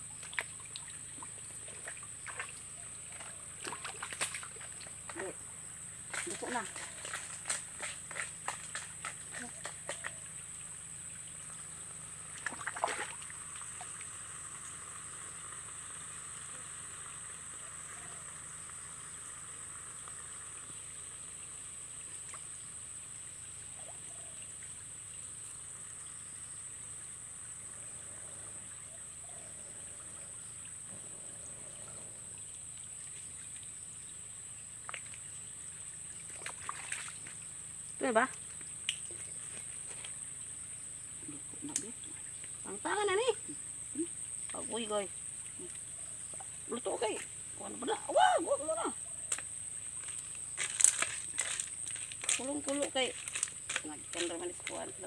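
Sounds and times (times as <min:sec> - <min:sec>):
trickle of running water: 0:00.0 - 0:55.0.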